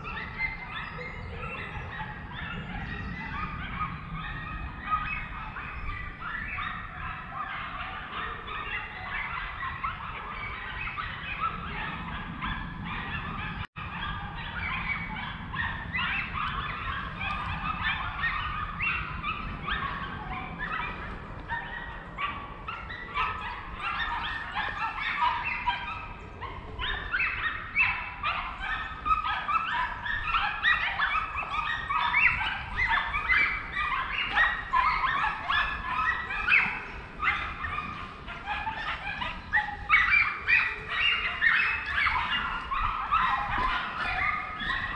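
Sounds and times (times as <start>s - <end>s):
hounds barking and yelping: 0.0s - 44.9s.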